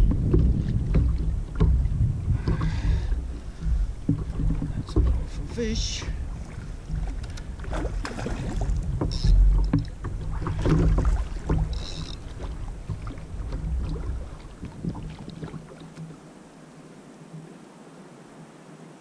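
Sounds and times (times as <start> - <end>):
small knocks and rattles: 0.0 - 6.2, 6.8 - 16.1
wind buffeting microphone: 0.0 - 15.8
water slapping kayak hull: 0.0 - 17.6.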